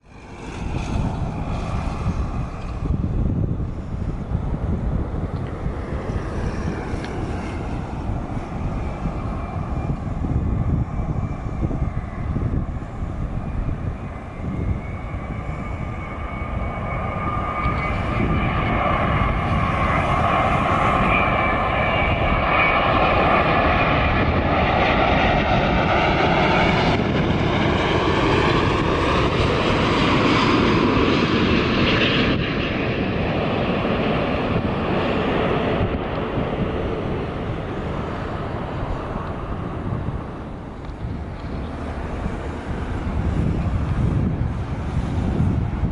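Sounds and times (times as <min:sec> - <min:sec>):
jet engines passing overhead: 0:00.0 - 0:45.9
wind rumble on microphone: 0:00.0 - 0:45.9.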